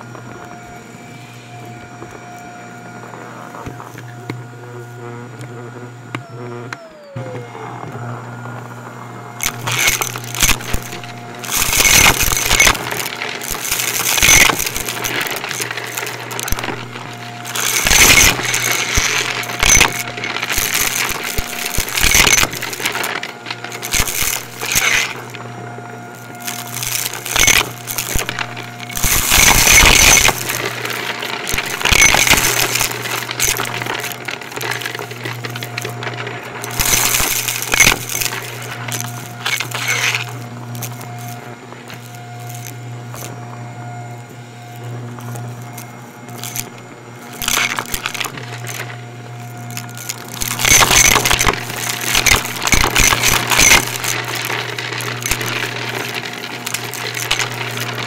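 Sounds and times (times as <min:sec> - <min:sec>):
vacuum cleaner motor hum: 0:00.0 - 0:58.0
debris crunching through vacuum: 0:00.1 - 0:58.0.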